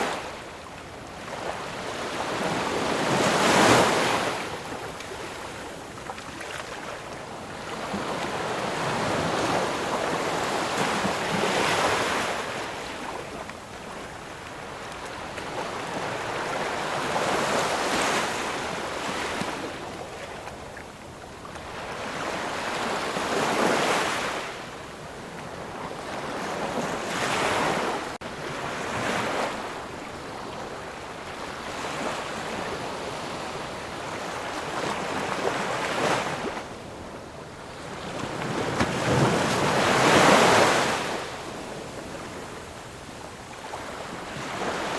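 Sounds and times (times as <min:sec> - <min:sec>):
waves breaking on shore: 0:00.0 - 0:44.9.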